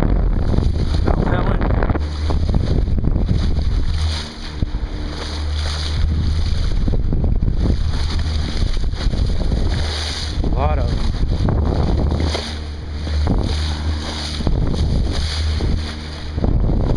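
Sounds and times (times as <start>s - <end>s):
water rushing along a hull: 0.0s - 16.9s
wind buffeting microphone: 0.0s - 16.9s.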